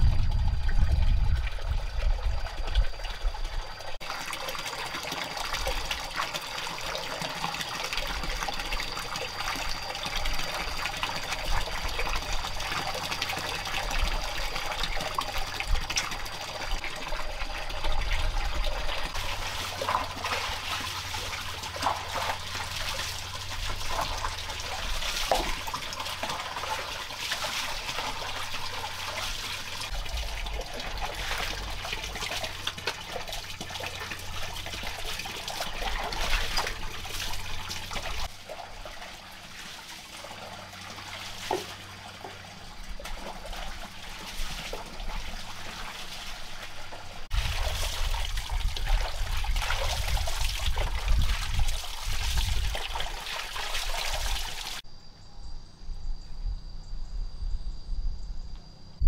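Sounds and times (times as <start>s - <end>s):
water running and trickling: 0.0s - 54.8s.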